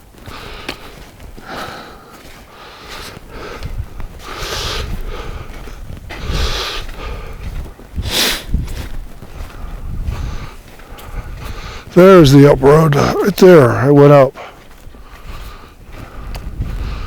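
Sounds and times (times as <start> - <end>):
footsteps on muddy trail: 0.0 - 17.0
man breathing hard: 0.2 - 12.0, 14.3 - 17.0
sniffing snorting breaths: 0.2 - 12.0, 14.3 - 17.0.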